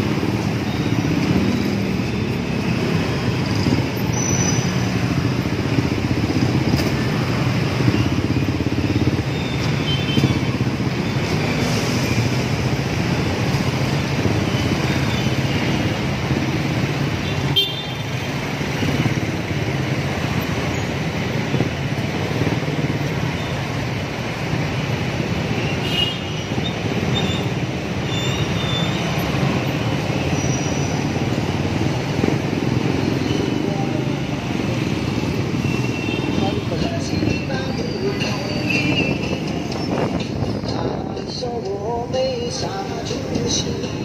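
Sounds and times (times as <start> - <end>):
traffic noise: 0.0 - 44.0.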